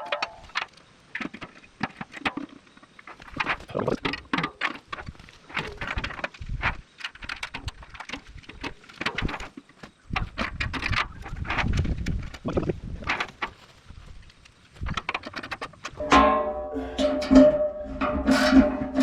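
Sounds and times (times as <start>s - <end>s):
metal clanks and rattles: 0.0s - 13.7s, 14.8s - 19.0s.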